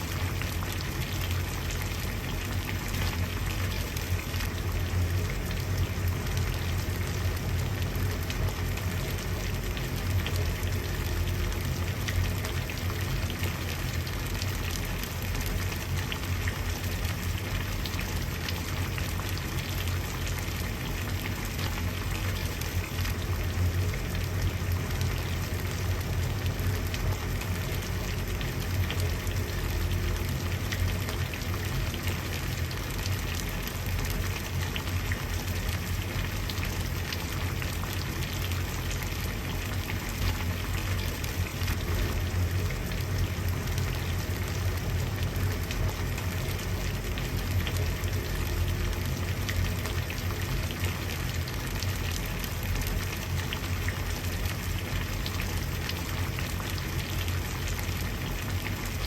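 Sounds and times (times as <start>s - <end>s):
water boiling in a pot: 0.0s - 59.0s.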